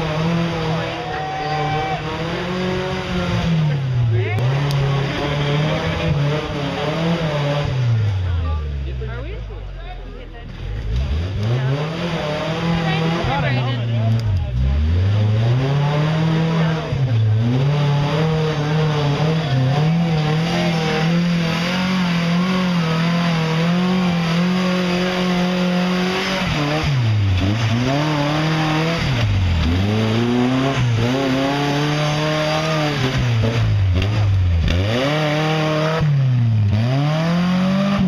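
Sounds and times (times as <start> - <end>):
buggy engine revving hard: 0.0 - 38.0.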